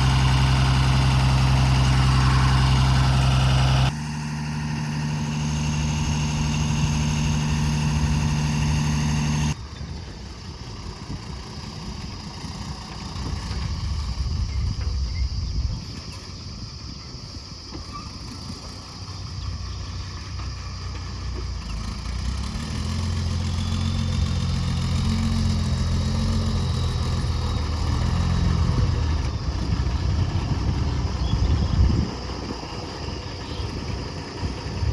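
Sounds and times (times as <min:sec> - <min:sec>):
diesel truck engine idling: 0:00.0 - 0:15.5, 0:18.5 - 0:34.9.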